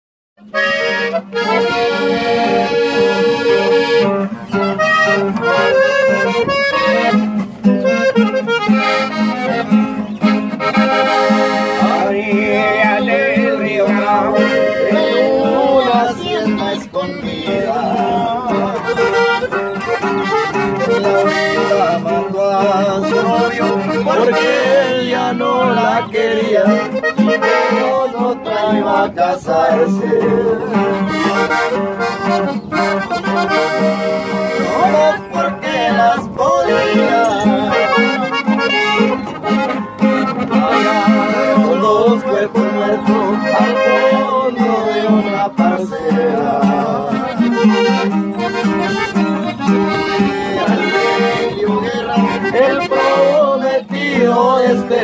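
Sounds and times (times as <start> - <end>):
button accordion melody: 0.4 - 55.0
guitar accompaniment: 0.4 - 55.0.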